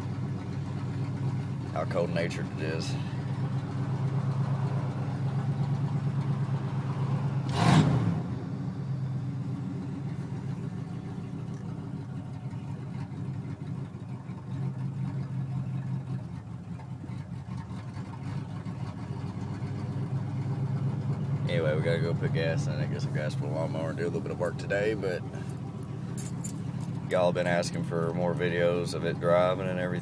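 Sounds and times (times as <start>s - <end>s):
engine running heard from cab: 0.0s - 30.0s.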